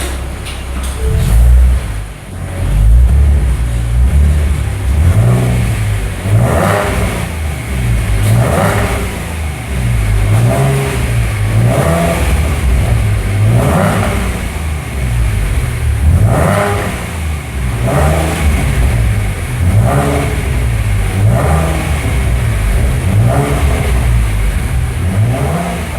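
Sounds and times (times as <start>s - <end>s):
car engine revving: 1.0s - 25.9s.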